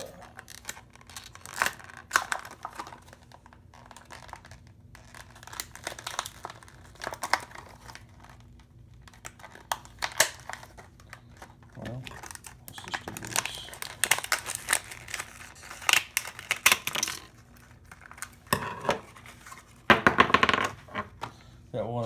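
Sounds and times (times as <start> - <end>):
plastic packaging crinkling: 0.0 - 19.9.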